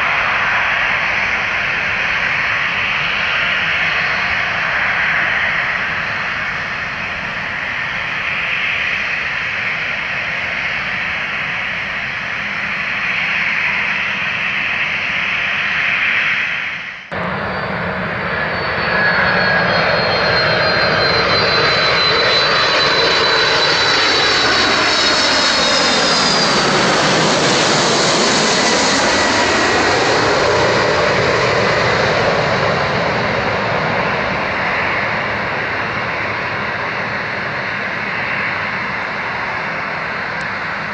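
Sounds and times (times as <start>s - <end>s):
jet airliner engines: 0.0s - 40.9s
landing jet engine whine: 0.0s - 40.9s.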